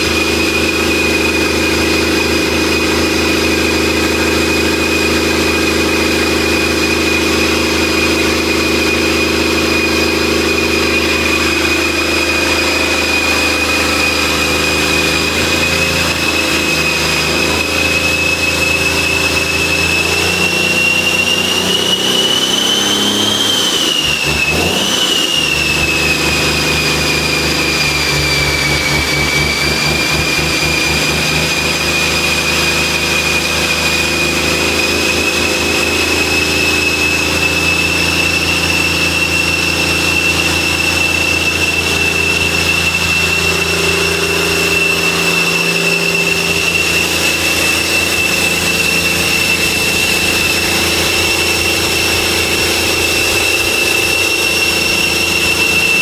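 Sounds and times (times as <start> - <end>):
diesel engine running: 0.0 - 56.0
steady high whine: 0.0 - 56.0.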